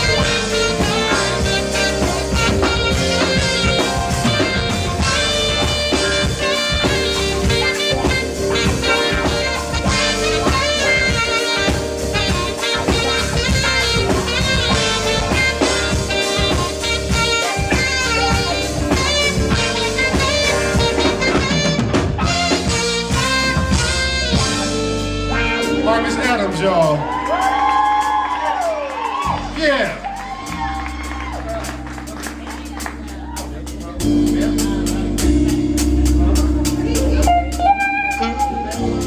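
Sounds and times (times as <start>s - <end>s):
band with drum kit: 0.0s - 39.0s
jazz saxophone melody: 0.0s - 39.0s.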